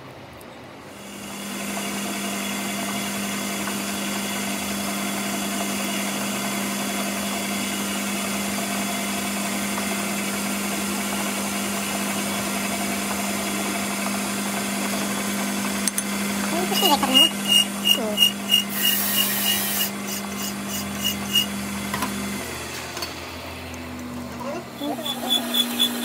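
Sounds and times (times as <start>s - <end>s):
metal lathe cutting steel: 1.0s - 23.2s, 24.4s - 26.0s.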